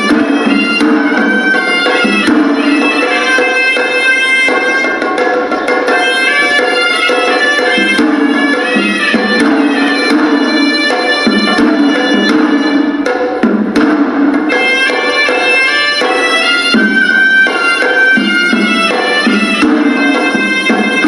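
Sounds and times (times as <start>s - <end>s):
double-reed pipe melody: 0.0s - 13.3s, 14.5s - 21.0s
drum strokes: 0.0s - 21.0s.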